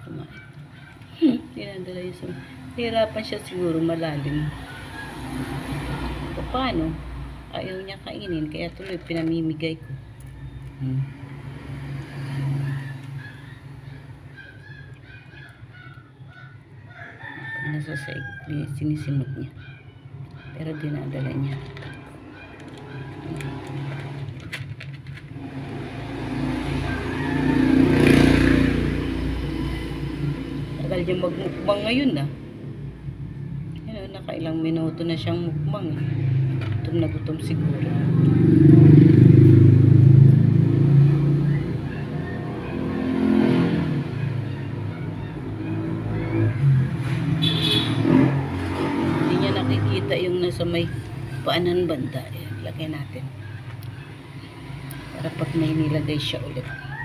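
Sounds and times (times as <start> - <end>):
passing vehicle engine hum: 0.0 - 57.0.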